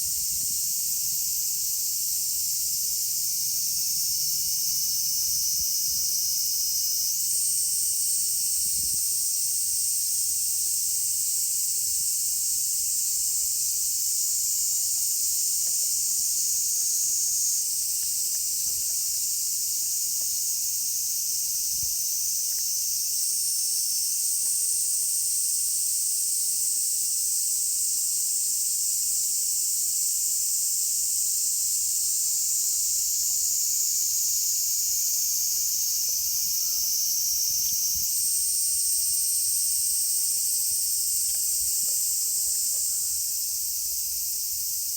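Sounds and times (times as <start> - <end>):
cicadas buzzing: 0.0 - 44.9
higher-pitched insect layer: 0.0 - 44.9.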